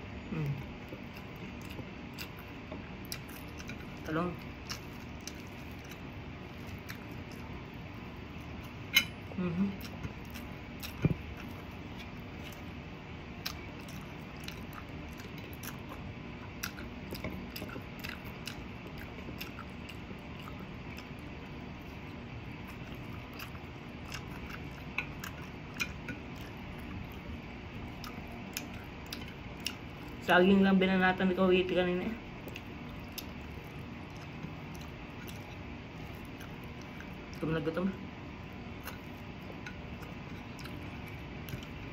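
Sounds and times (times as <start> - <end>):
person chewing food: 0.2 - 30.3, 32.3 - 37.4, 38.3 - 41.9.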